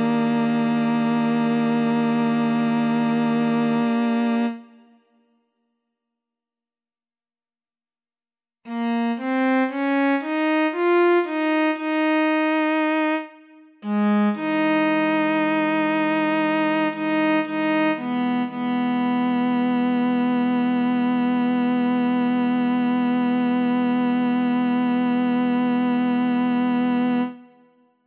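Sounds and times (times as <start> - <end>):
string-like instrument notes: 0.0 - 5.0, 8.7 - 27.6.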